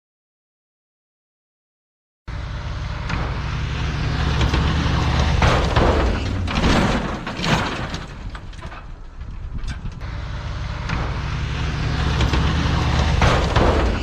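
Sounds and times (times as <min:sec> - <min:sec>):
vehicle engine driving: 0:02.3 - 0:14.0.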